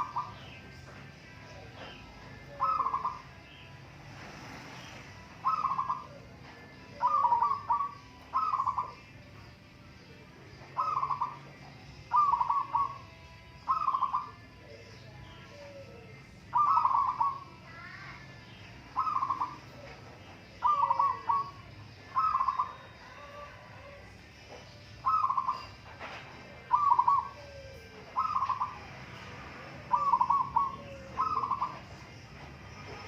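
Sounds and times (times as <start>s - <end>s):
doves cooing: 0.0s - 9.1s, 10.6s - 18.0s, 18.6s - 33.0s
small birds chirping: 0.0s - 33.0s.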